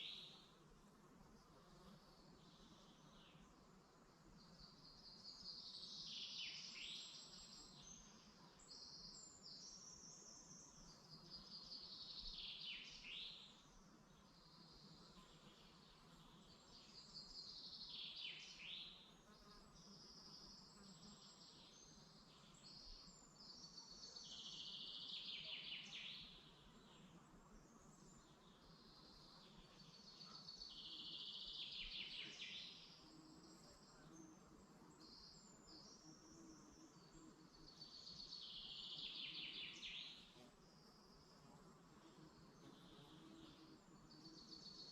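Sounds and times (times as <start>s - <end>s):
songbird singing: 0.0s - 44.9s
faint bird chirps: 4.3s - 44.9s.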